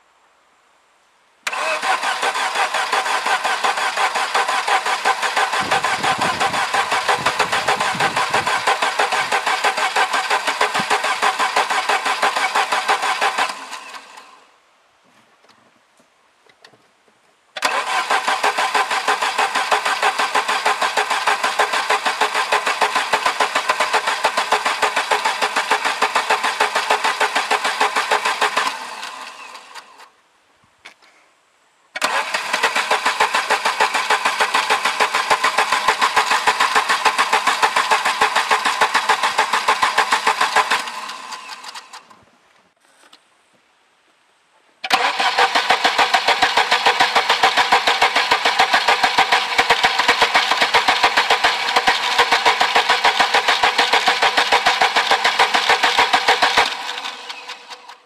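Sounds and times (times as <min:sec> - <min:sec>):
car engine cranking on starter: 0:01.4 - 0:14.5, 0:17.6 - 0:30.1, 0:32.0 - 0:42.2, 0:44.8 - 0:58.0.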